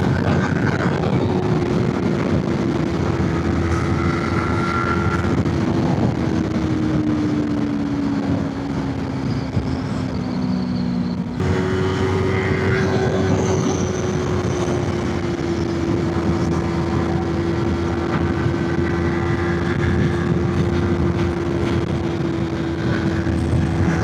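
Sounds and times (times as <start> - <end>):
motorcycle engine running: 0.0 - 24.0
wind rush over microphone: 0.0 - 24.0.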